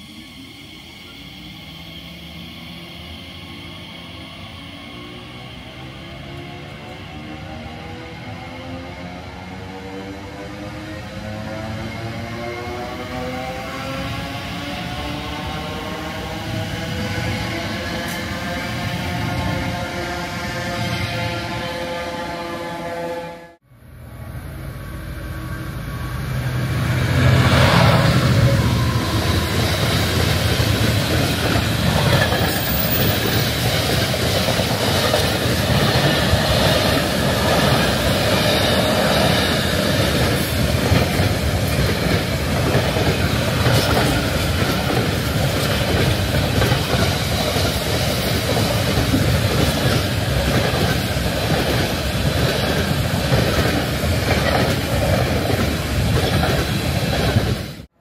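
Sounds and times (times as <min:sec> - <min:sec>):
train running past: 0:00.0 - 0:58.0.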